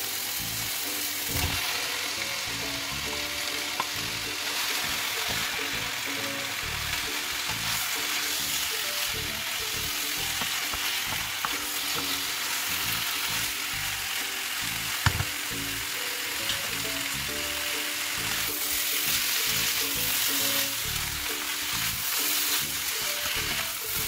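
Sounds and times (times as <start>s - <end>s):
chicken sizzling in a wok: 0.0s - 24.0s.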